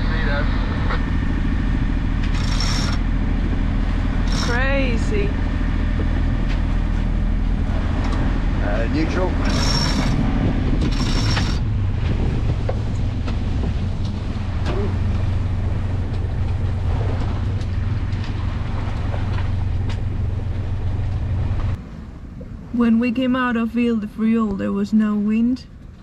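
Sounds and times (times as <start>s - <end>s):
wind and water hiss: 0.0s - 24.4s
boat engine droning: 0.0s - 26.0s.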